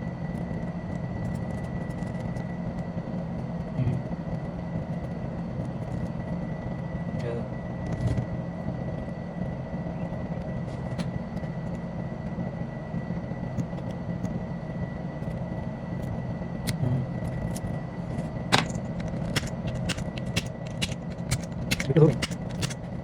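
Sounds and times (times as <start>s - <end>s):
machine hum with high whine: 0.0s - 23.0s.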